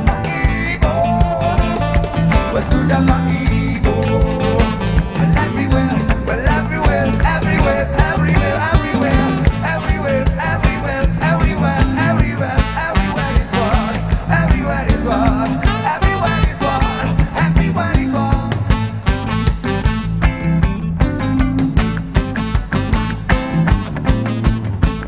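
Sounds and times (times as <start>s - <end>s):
bass line: 0.0s - 25.0s
drums: 0.0s - 25.0s
electric guitar: 0.0s - 25.0s
keyboards: 0.0s - 25.0s.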